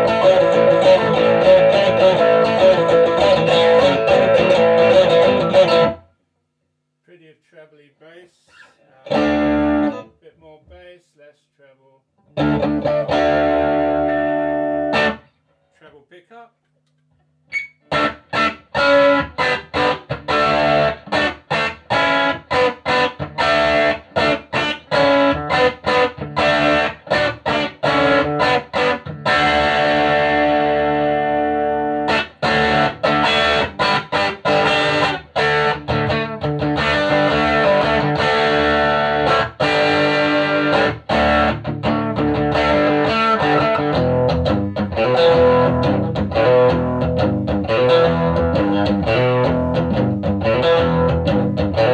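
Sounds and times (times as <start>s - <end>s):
electric guitar chords: 0.0s - 6.1s, 9.0s - 10.0s, 12.2s - 15.3s, 17.8s - 51.9s.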